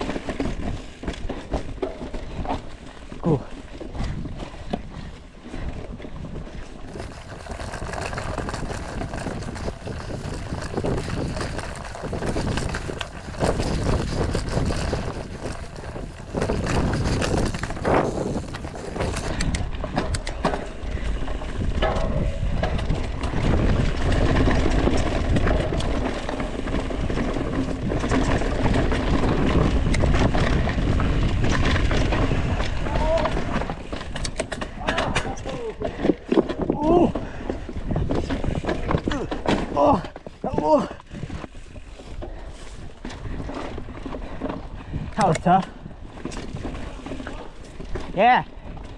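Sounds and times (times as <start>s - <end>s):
bike clattering over rocks: 0.0s - 48.9s
wind buffeting microphone: 0.0s - 48.9s.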